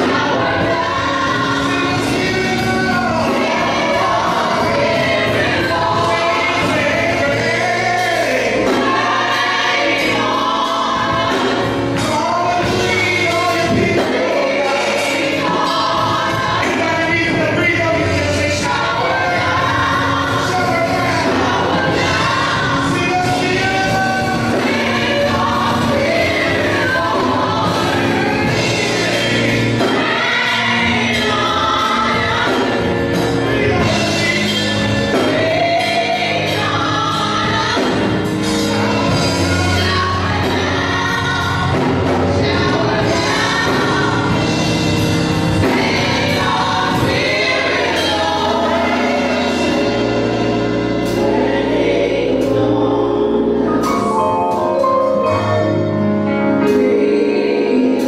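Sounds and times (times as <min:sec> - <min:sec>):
drums: 0:00.0 - 0:54.9
keyboard: 0:00.0 - 0:58.0
women singing in harmony: 0:00.0 - 0:58.0.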